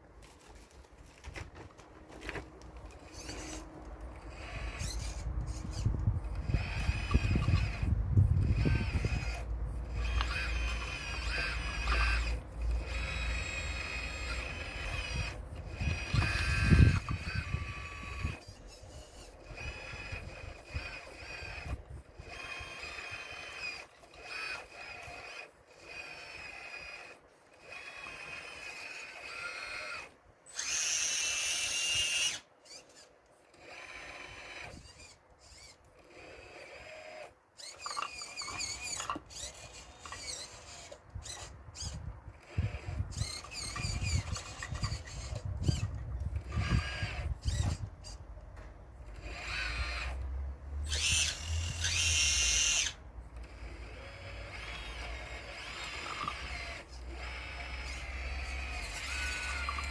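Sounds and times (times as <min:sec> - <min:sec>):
electric motor whining: 0:01.4 - 0:59.9.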